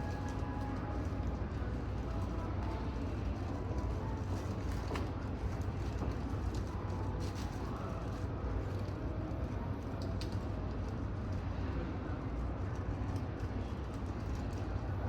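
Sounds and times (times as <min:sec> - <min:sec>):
steady low rumble and hum: 0:00.0 - 0:15.0.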